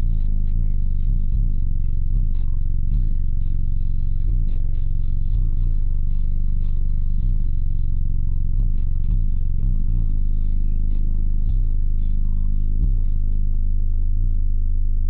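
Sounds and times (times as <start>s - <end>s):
loud bass music through subwoofers: 0.0s - 15.0s.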